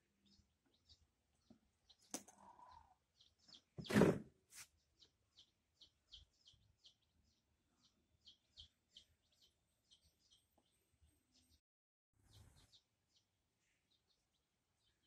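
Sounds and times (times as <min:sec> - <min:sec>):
small bird chirping: 0:00.0 - 0:11.6, 0:12.2 - 0:15.0.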